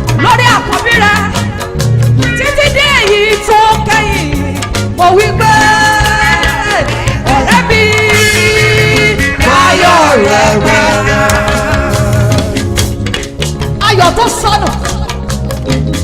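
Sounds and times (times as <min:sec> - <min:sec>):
bass and drum beat: 0:00.0 - 0:16.0
gospel band music: 0:00.0 - 0:16.0.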